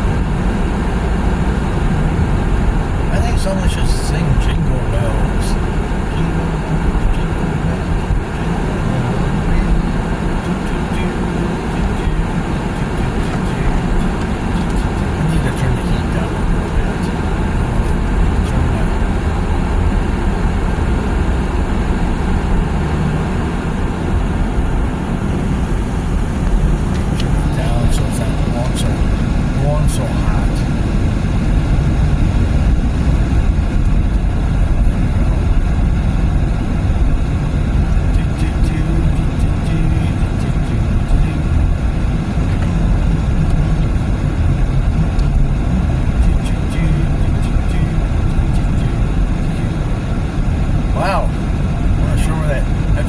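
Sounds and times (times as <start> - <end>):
car road noise with hiss: 0.0 - 53.0.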